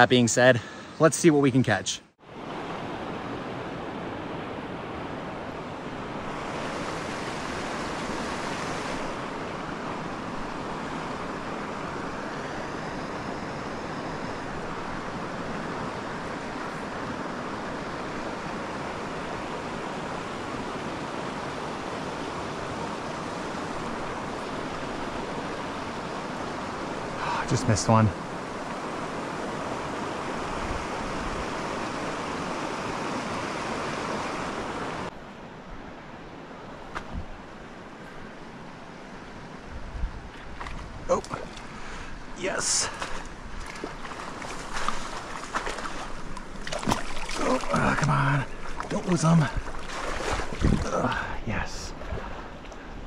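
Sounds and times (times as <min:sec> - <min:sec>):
creek water rushing: 0:02.3 - 0:53.0.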